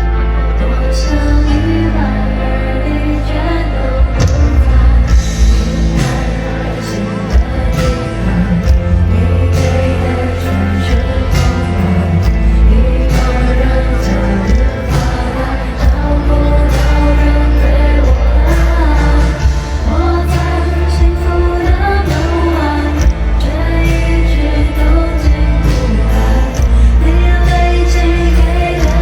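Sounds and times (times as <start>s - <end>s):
live pop music with heavy bass: 0.0s - 29.0s
woman singing: 0.0s - 29.0s.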